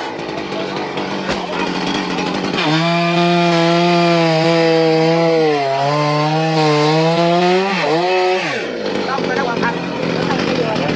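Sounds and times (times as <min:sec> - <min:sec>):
chainsaw cutting wood: 0:00.0 - 0:10.9.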